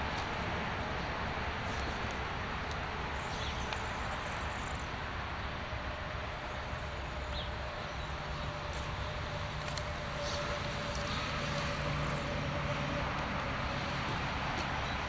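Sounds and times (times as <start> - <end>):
faint steady whine: 0.0 - 15.0
wind-like hiss: 0.0 - 15.0.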